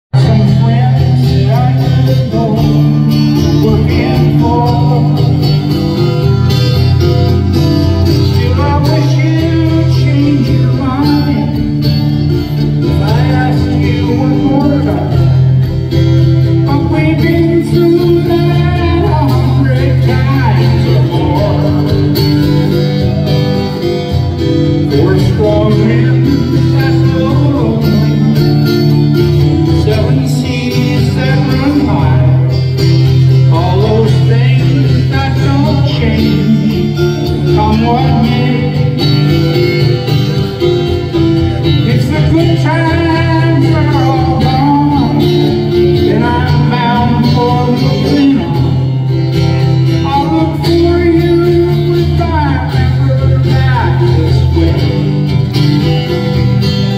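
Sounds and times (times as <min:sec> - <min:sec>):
acoustic guitar strummed: 0:00.2 - 0:56.9
bending melody line: 0:00.2 - 0:56.9.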